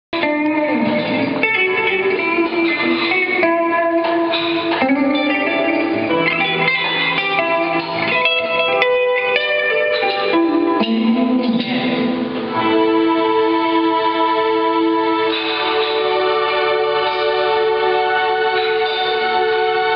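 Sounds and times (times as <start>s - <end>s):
electric guitar melody: 0.2s - 19.9s
live band playing: 0.2s - 19.9s.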